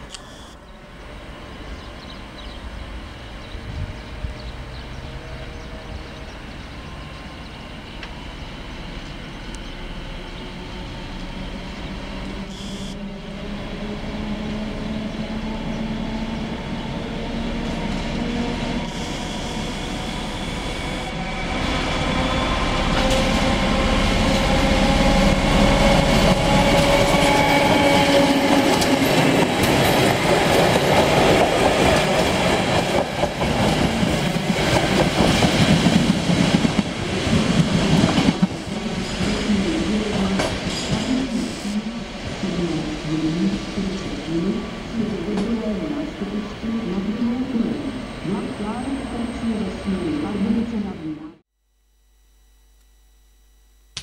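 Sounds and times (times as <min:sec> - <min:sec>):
diesel locomotive engine under load: 0:00.1 - 0:50.8.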